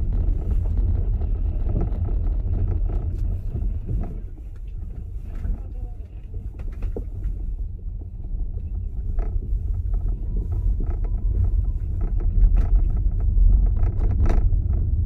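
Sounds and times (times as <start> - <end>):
car road rumble: 0.0 - 15.0
light clicks and knocks: 0.1 - 15.0.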